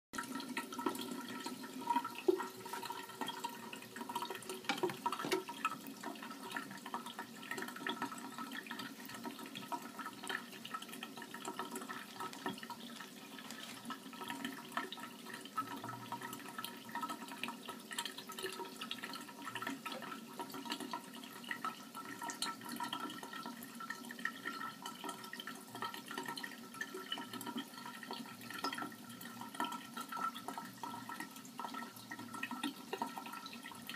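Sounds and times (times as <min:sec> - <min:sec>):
water drips and splashes: 0:00.2 - 0:33.9
water running into a sink: 0:00.2 - 0:33.9.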